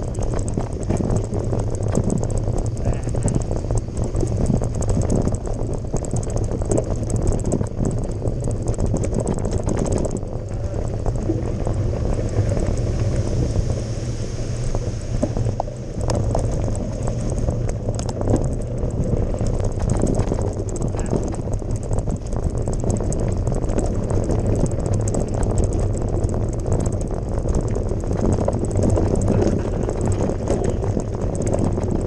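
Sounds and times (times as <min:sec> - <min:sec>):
bike rattling and clicking: 0:00.0 - 0:32.0
wind buffeting microphone: 0:00.0 - 0:32.0.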